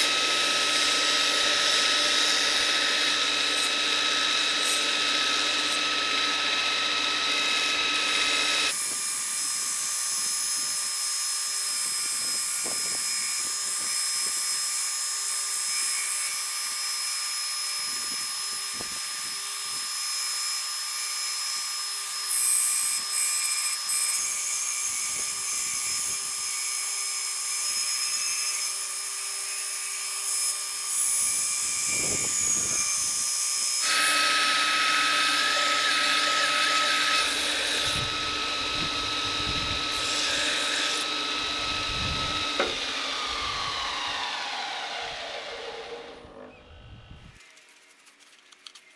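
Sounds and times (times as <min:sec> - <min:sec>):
belt grinder whine: 0:00.0 - 0:47.4.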